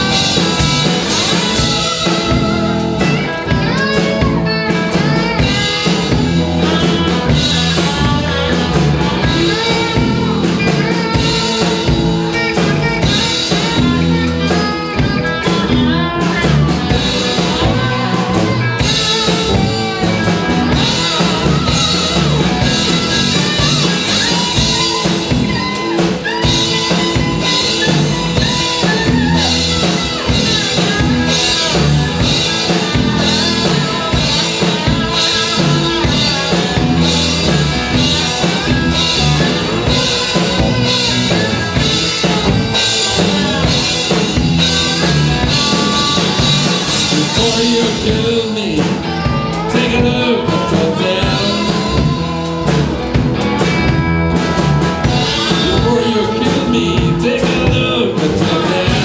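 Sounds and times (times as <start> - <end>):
amplified cigar box guitar: 0.0 - 59.0
drum kit steady beat: 0.0 - 59.0.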